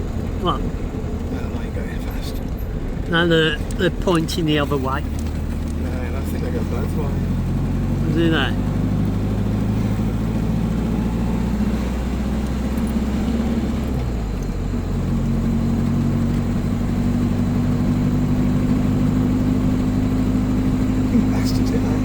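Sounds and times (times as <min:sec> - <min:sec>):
car engine from inside cabin: 0:00.0 - 0:22.0
road noise: 0:00.0 - 0:22.0.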